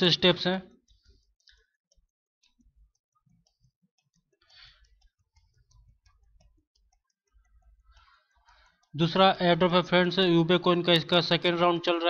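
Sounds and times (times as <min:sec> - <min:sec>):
faint clicks: 0:00.2 - 0:10.8.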